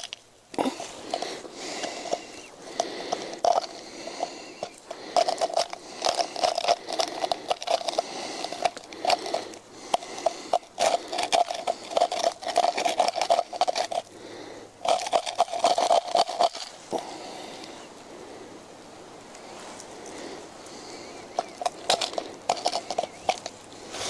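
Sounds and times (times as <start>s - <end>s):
tin can rasping on bark: 0.0s - 14.2s, 14.8s - 17.7s, 19.4s - 24.0s.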